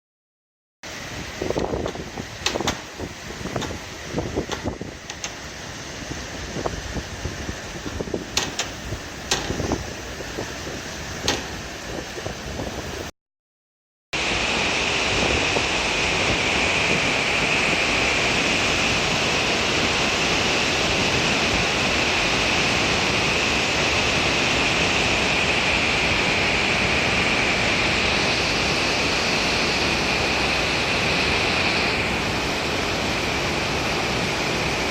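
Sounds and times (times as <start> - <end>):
heavy rain and wind: 0.9 - 13.1, 14.2 - 34.9.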